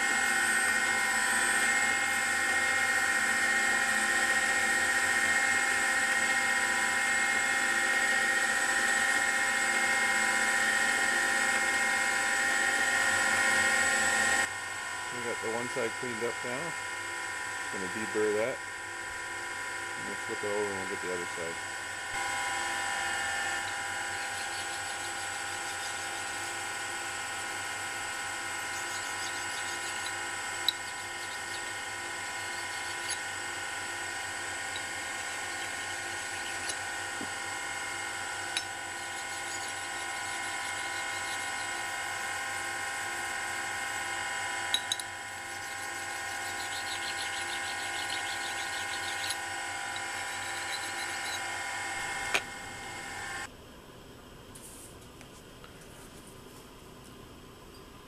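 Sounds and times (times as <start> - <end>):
grinder motor whining: 0.0 - 14.5, 19.7 - 53.5.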